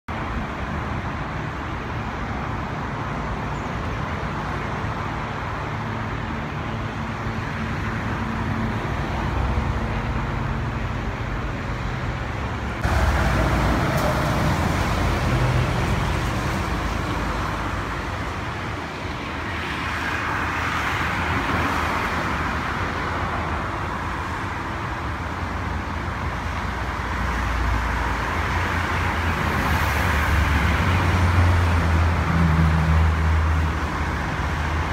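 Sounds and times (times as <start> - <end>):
road traffic rumble: 0.1 - 34.9.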